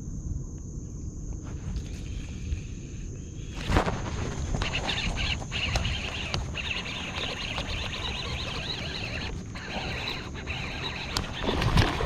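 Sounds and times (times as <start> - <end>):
birds and insects chirping: 0.0 - 12.0.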